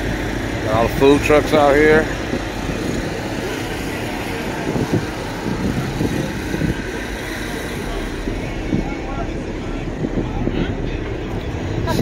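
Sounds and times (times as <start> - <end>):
low rumble: 0.0 - 12.0
faint indistinct voices: 0.6 - 12.0.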